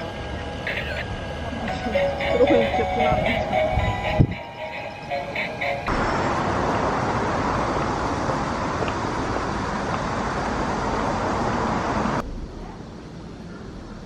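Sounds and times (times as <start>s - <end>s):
quiet outdoor background: 0.0s - 14.0s
street traffic hiss: 0.0s - 14.0s.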